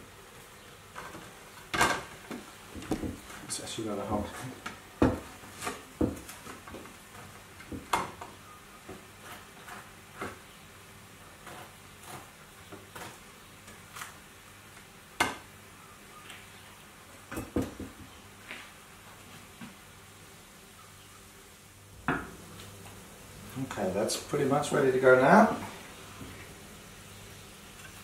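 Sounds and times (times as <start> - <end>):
faint sizzle from frying pan: 0.0 - 28.0.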